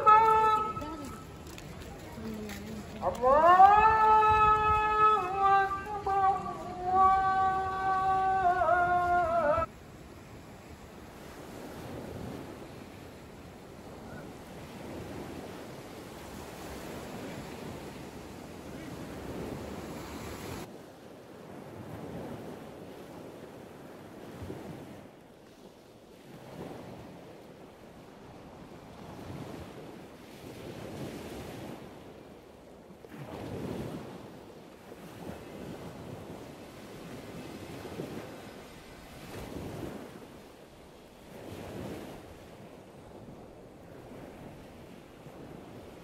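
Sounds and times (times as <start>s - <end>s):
sea waves breaking: 0.0s - 46.0s
wind on microphone: 0.0s - 46.0s.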